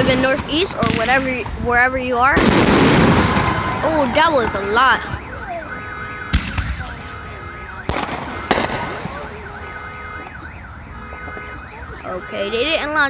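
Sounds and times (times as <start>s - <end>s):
fireworks bangs: 0.0s - 12.0s
car alarm tones: 0.0s - 13.0s.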